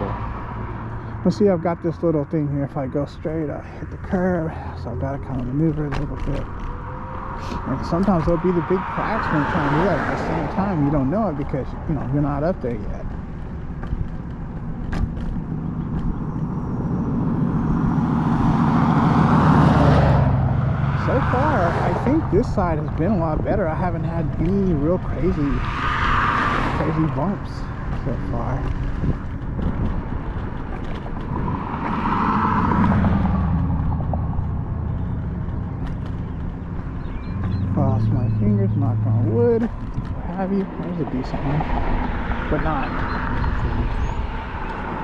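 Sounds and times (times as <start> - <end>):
wind and road rumble: 0.0 - 45.0
electric scooter hum: 3.0 - 45.0.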